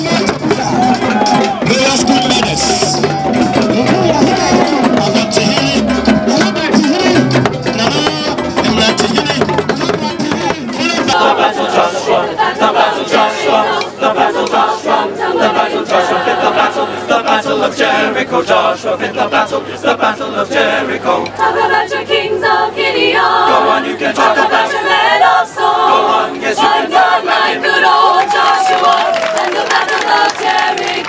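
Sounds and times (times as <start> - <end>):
choir singing: 0.0 - 31.0.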